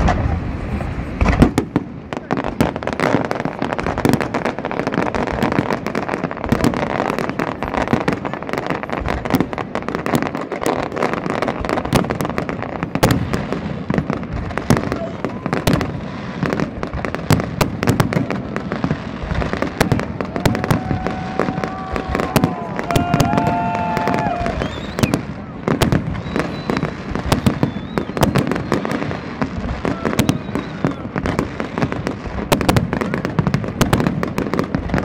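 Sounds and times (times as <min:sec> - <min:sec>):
fireworks bursting: 0:00.0 - 0:35.0.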